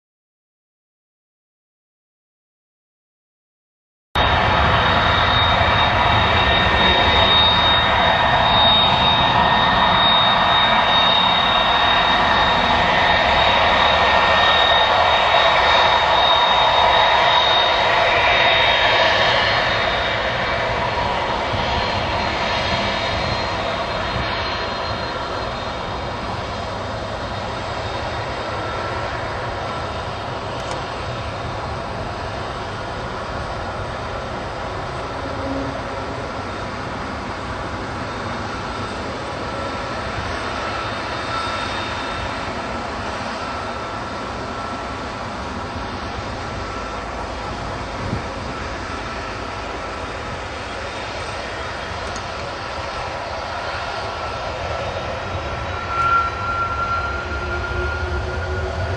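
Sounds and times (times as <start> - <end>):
high whine: 4.2 - 58.9
jet engines running: 4.2 - 58.9.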